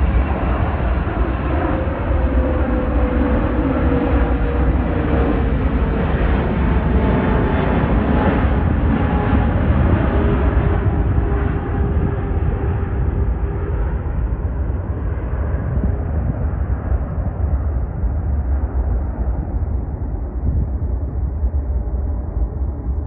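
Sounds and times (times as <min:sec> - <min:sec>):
jet engine rumble and whine: 0:00.0 - 0:23.0.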